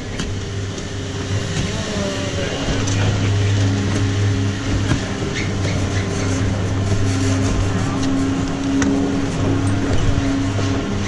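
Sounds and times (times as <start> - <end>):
chairlift machinery humming: 0.0 - 11.0.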